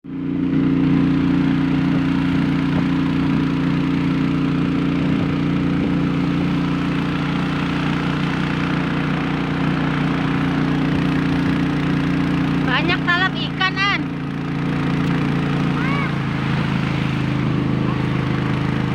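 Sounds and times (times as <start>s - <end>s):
engine droning steadily: 0.0s - 18.9s.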